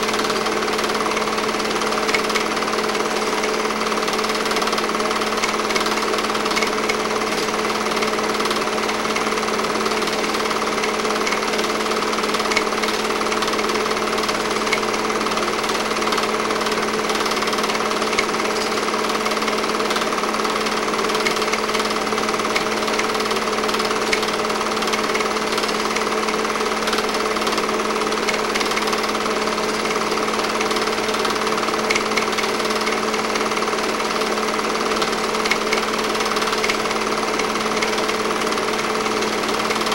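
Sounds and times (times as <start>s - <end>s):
film projector clatter: 0.0s - 39.9s
motor hum: 0.0s - 39.9s.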